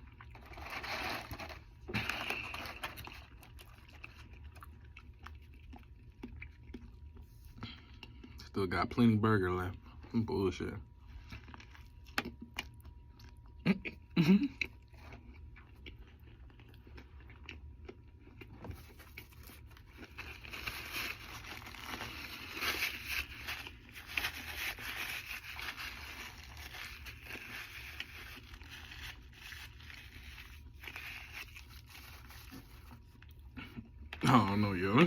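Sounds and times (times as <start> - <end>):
person chewing food: 0.0 - 0.8, 1.4 - 8.5, 10.9 - 34.6.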